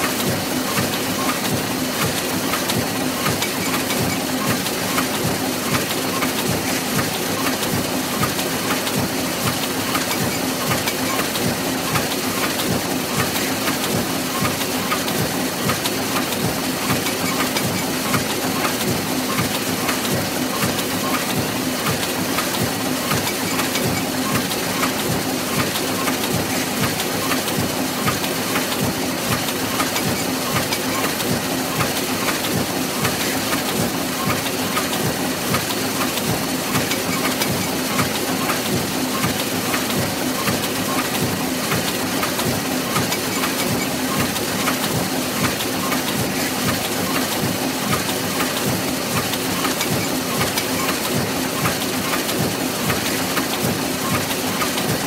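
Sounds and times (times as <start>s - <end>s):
press machine clattering: 0.0s - 55.0s.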